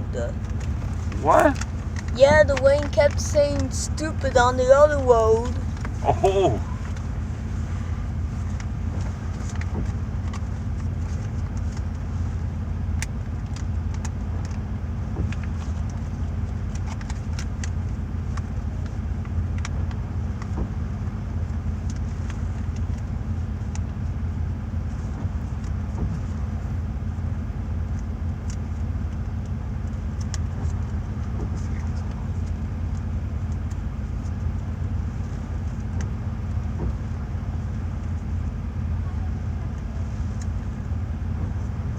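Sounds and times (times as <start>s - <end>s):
road and engine rumble inside car: 0.0s - 41.9s.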